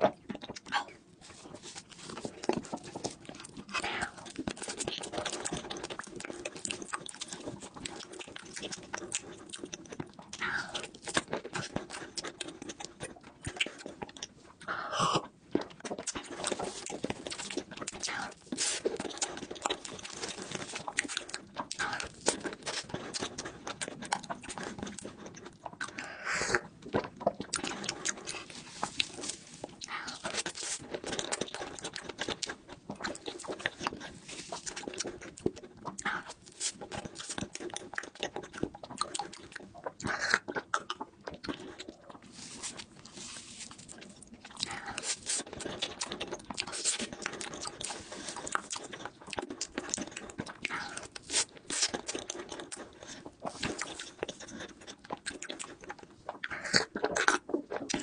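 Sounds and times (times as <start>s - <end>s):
close chewing and mouth clicks: 0.0s - 58.0s.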